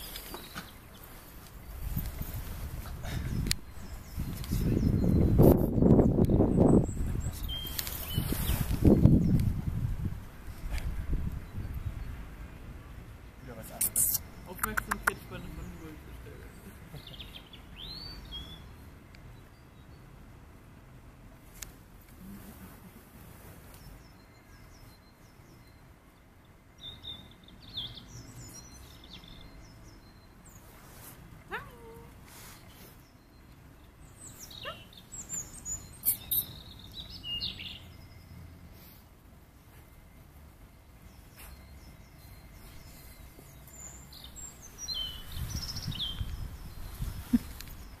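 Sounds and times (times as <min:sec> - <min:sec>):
small birds chirping: 0:00.0 - 0:20.3, 0:21.5 - 0:48.0
faint outdoor hush: 0:00.0 - 0:48.0
faint steady background noise: 0:00.0 - 0:48.0.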